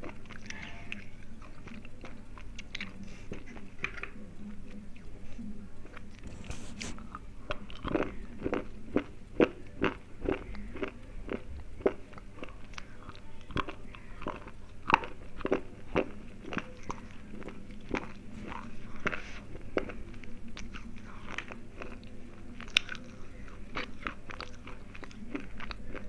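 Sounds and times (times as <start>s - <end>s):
crunching chewing: 0.0s - 26.0s.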